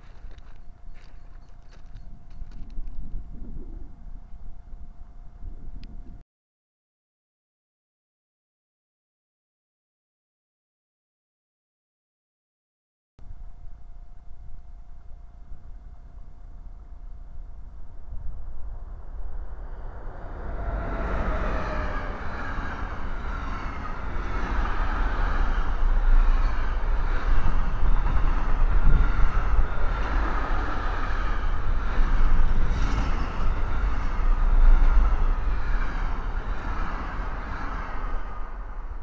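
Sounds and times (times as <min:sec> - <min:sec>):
freight train passing: 0:00.0 - 0:05.9, 0:13.2 - 0:39.0.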